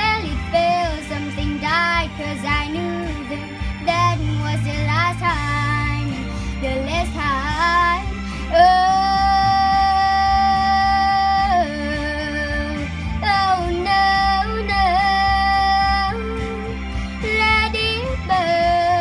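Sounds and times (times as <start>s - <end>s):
backing track music: 0.0s - 19.0s
girl singing: 0.0s - 19.0s.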